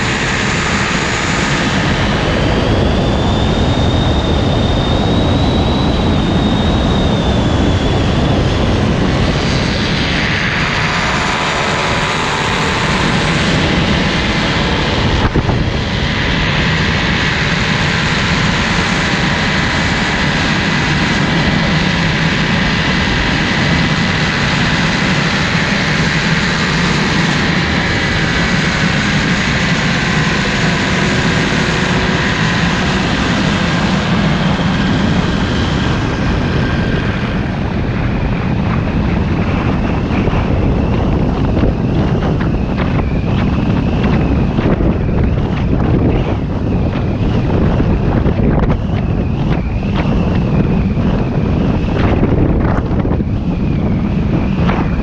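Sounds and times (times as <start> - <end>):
paramotor engine and propeller: 0.0 - 55.0
wind rush on microphone: 0.0 - 55.0.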